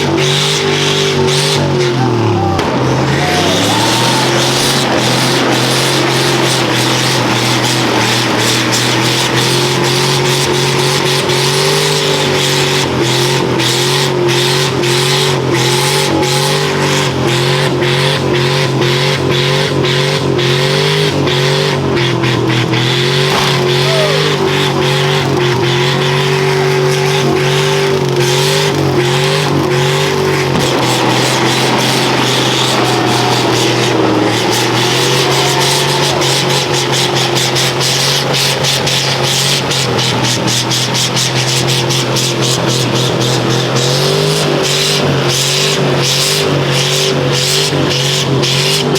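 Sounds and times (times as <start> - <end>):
engine revving: 0.0 - 48.9.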